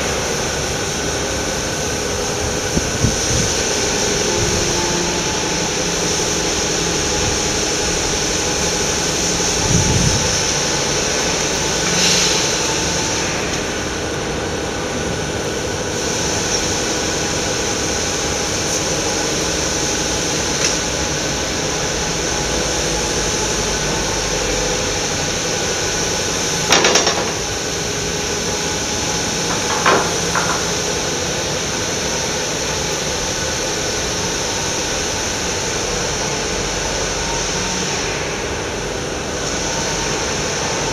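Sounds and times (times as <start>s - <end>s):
high hiss: 0.0s - 40.9s
machinery hum: 0.0s - 40.9s.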